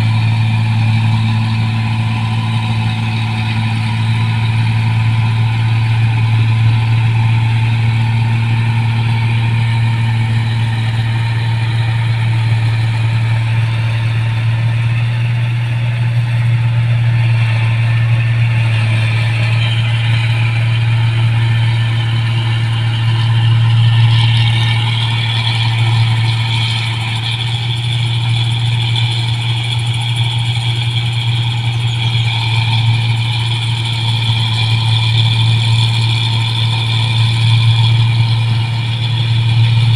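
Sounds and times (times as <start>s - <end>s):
combine harvester engine hum: 0.0s - 39.9s
high-pitched whine: 0.0s - 39.9s.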